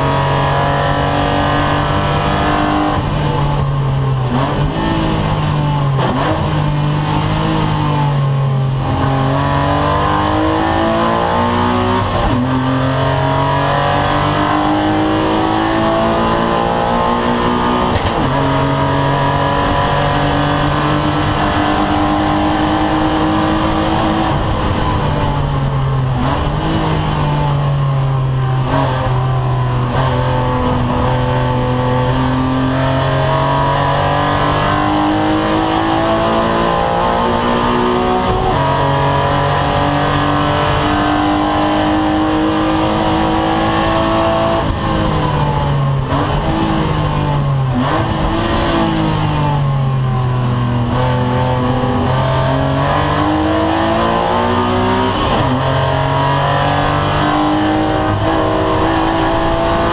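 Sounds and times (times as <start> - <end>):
race car engine changing gear: 0.0 - 59.9
road and wind noise: 0.0 - 59.9.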